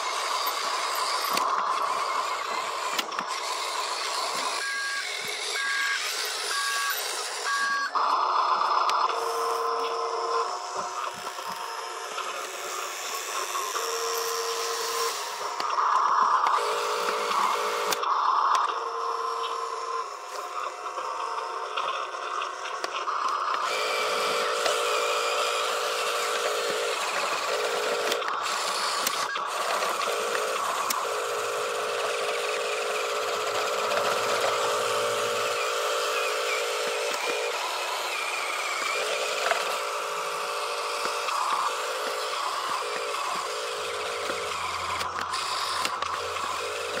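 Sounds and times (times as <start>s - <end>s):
toy truck electric motor whining: 0.0s - 47.0s.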